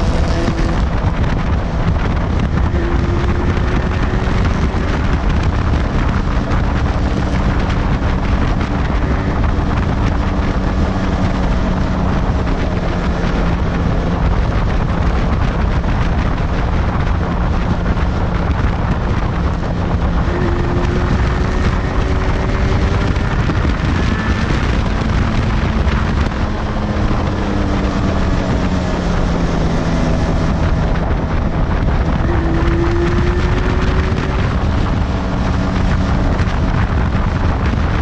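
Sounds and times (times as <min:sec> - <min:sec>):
motorcycle engine running: 0:00.0 - 0:38.0
wind buffeting microphone: 0:00.0 - 0:38.0.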